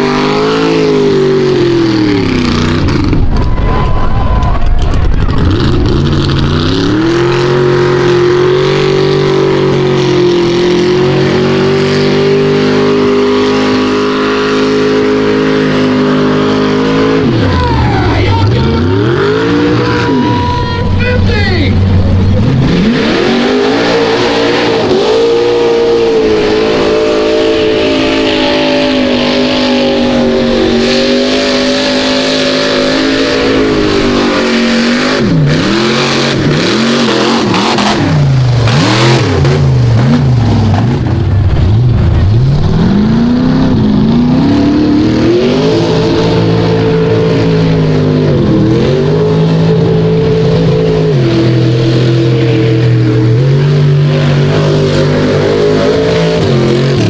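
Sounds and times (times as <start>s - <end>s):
tires churning mud: 0.0s - 57.0s
truck engine revving: 0.0s - 57.0s.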